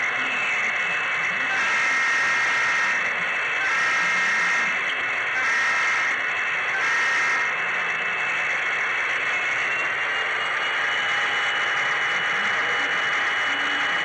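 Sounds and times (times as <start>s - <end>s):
faint high whine: 0.0s - 14.0s
model train whirring on rails: 0.0s - 14.0s.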